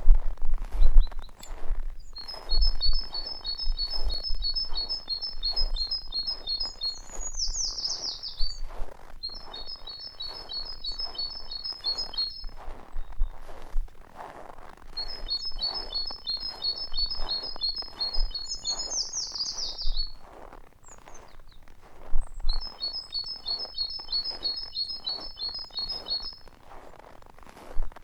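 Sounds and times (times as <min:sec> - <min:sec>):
footsteps crunching in snow: 0:00.0 - 0:28.0
songbird chirping: 0:00.8 - 0:13.8, 0:14.8 - 0:27.0.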